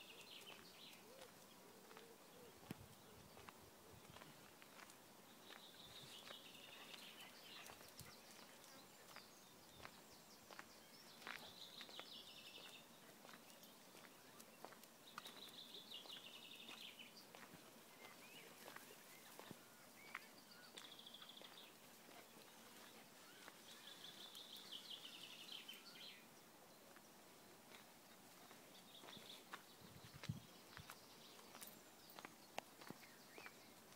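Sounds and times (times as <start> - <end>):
light footsteps on dirt path: 0.0 - 33.9.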